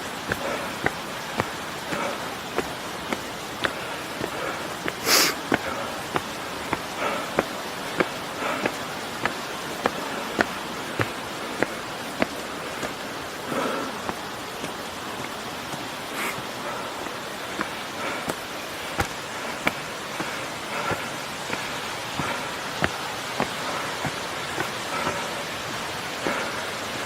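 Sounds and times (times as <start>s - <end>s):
footsteps walking: 0.0s - 25.2s
hissing rustle: 0.0s - 26.5s
flowing water: 0.0s - 27.0s.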